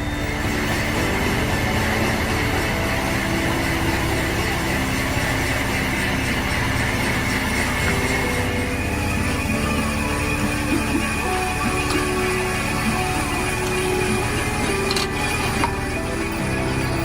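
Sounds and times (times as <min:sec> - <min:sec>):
workshop machine rumbling and whining: 0:00.0 - 0:17.0.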